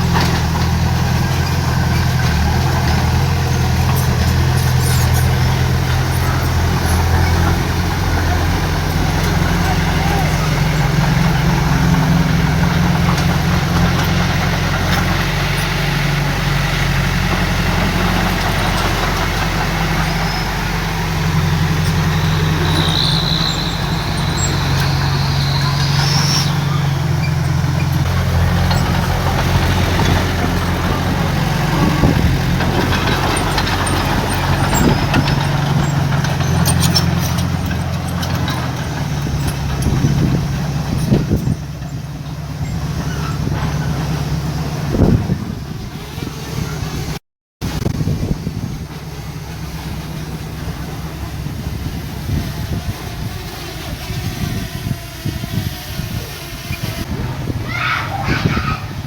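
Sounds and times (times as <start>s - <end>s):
high squeal: 0.0s - 45.4s, 56.2s - 59.0s
heavy diesel engine running: 0.0s - 59.0s.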